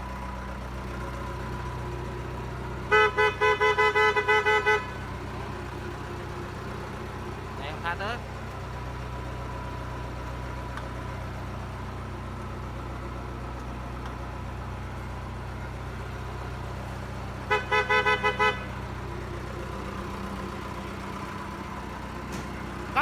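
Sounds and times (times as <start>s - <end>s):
machine engine idling: 0.0s - 23.0s.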